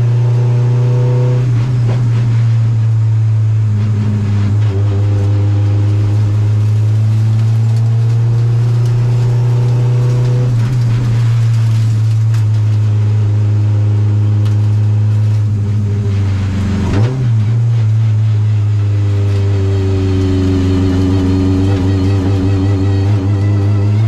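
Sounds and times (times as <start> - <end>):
rally car engine under load: 0.0 - 24.0.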